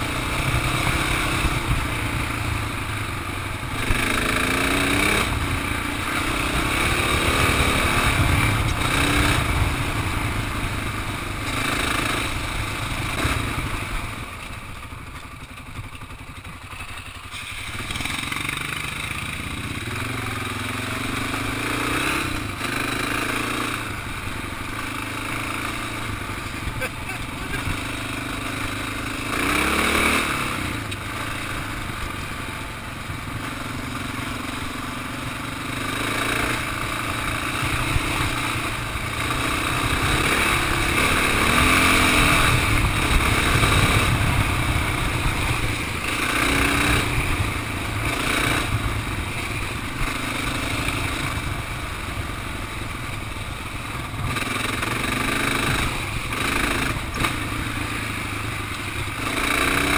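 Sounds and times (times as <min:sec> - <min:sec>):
dirt bike engine revving: 0:00.0 - 0:14.5, 0:16.8 - 0:59.9.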